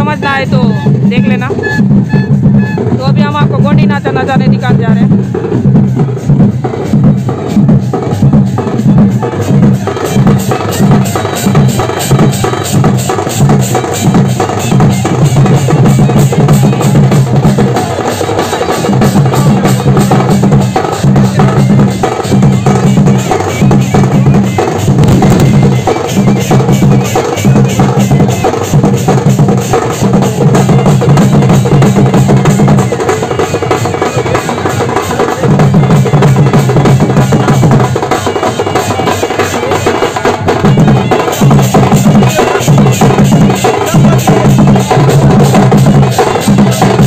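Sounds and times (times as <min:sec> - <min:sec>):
drums beating fast rhythm: 0:00.0 - 0:47.0.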